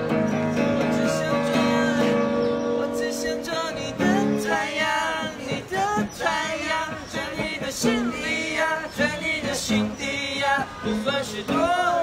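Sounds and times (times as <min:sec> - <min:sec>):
acoustic guitar: 0:00.0 - 0:12.0
group singing together: 0:00.6 - 0:12.0.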